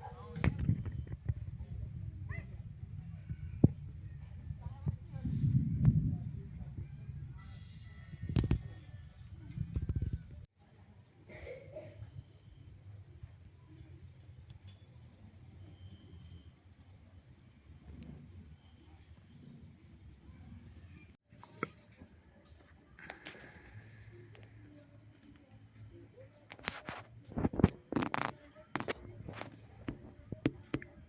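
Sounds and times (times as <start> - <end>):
crickets singing: 0.0 - 31.0.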